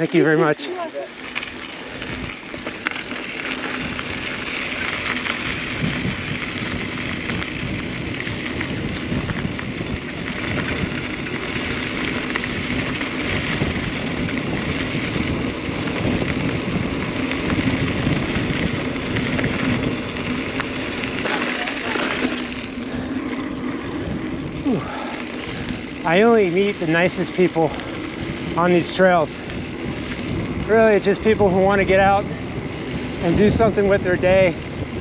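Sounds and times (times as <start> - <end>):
wind buffeting microphone: 1.2 - 35.0.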